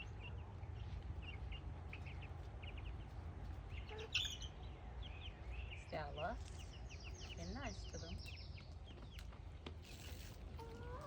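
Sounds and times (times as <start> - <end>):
baby chicks peeping: 0.0 - 9.4, 10.1 - 11.0.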